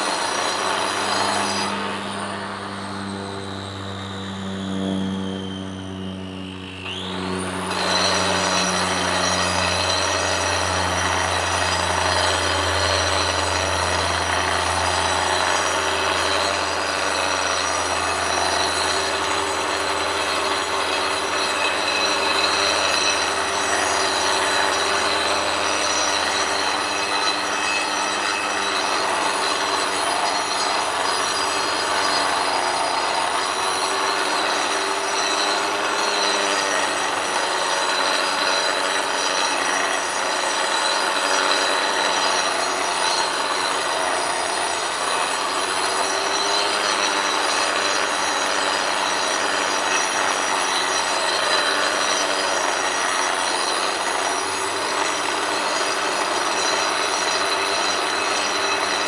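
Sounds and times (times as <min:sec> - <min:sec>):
power saw grinding stone: 0:00.0 - 0:59.0.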